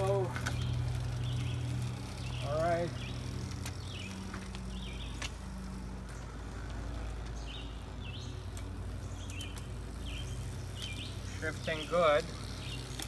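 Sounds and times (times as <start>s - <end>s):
bird chirping: 0.4s - 6.4s, 7.2s - 13.0s.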